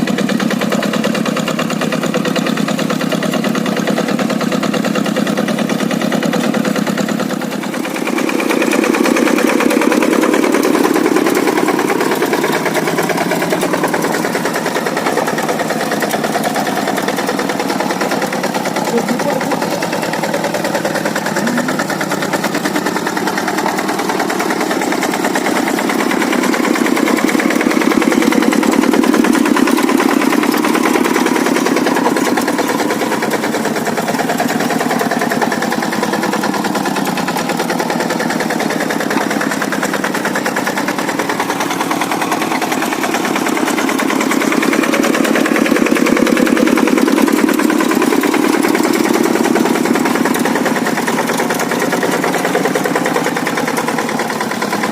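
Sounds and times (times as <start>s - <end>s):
diesel engine running under load: 0.0s - 54.9s.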